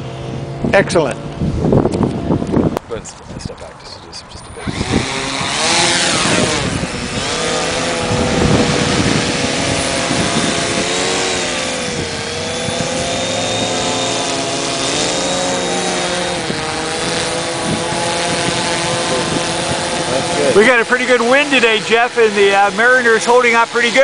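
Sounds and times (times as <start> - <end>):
gusty wind noise: 0.0 - 23.5
drone propellers buzzing: 0.0 - 24.0.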